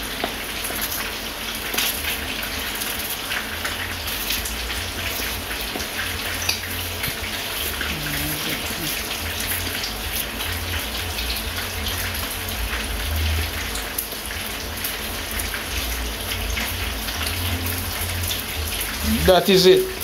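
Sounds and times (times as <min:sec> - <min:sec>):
fish frying in oil: 0:00.0 - 0:20.0.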